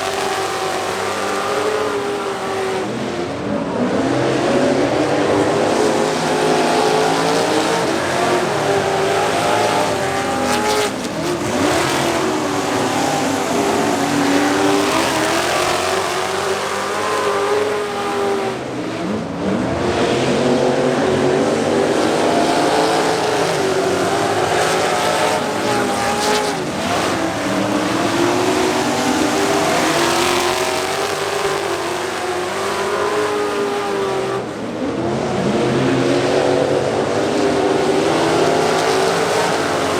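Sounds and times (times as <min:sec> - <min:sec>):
racing truck engines: 0:00.0 - 0:39.9.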